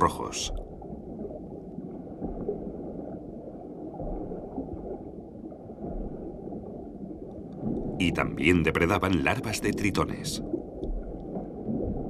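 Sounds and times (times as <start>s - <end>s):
underwater gurgling rumble: 0.0s - 12.0s.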